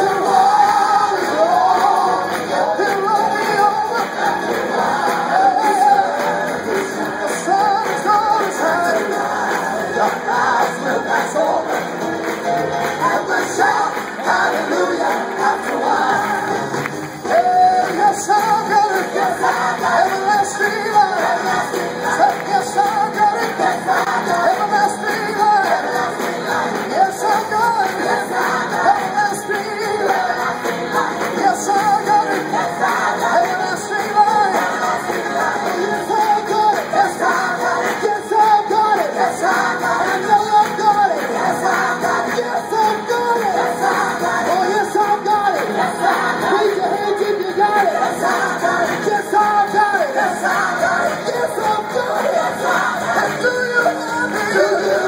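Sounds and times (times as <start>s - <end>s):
amplified band accompaniment: 0.0s - 55.0s
group singing gospel: 0.0s - 55.0s.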